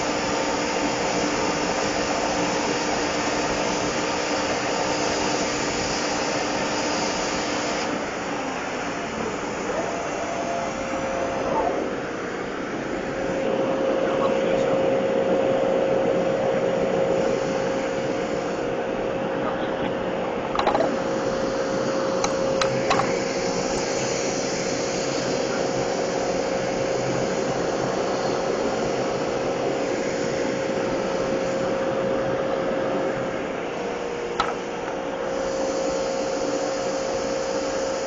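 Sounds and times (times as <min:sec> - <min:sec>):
machine motor hum: 0:00.0 - 0:38.0.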